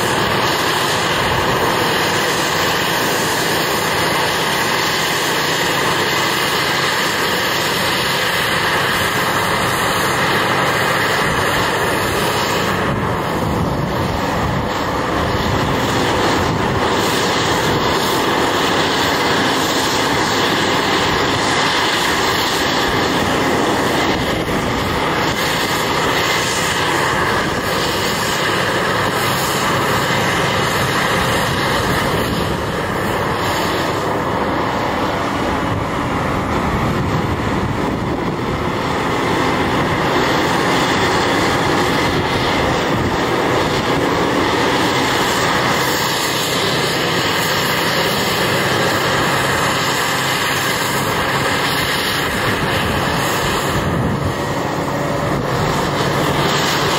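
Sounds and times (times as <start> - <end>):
diesel excavator running: 0.0 - 56.9.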